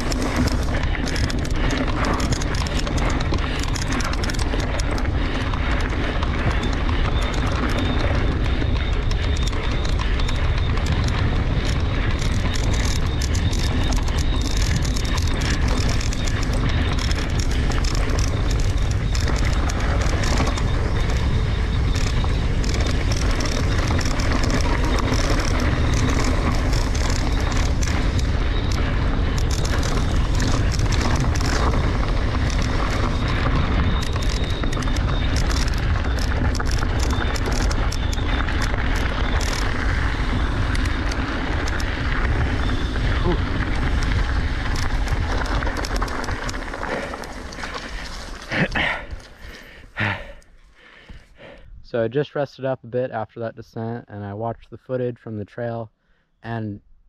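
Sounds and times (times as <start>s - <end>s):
wind buffeting microphone: 0.0s - 50.3s
tyres crackling over gravel: 0.0s - 51.4s.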